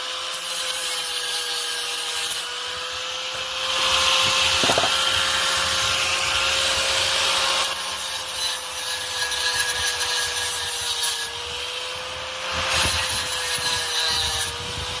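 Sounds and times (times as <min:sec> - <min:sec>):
power tool whining on metal: 0:00.0 - 0:15.0.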